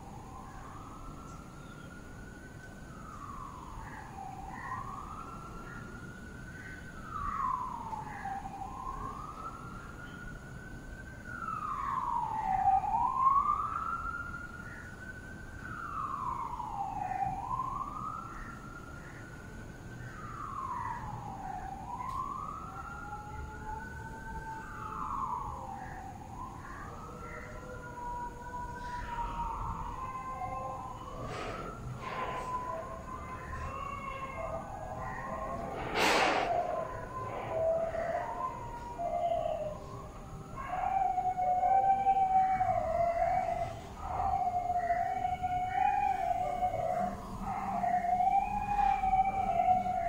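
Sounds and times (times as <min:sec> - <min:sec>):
emergency vehicle siren wailing: 0:00.0 - 0:50.0
lower siren tone: 0:00.0 - 0:50.0.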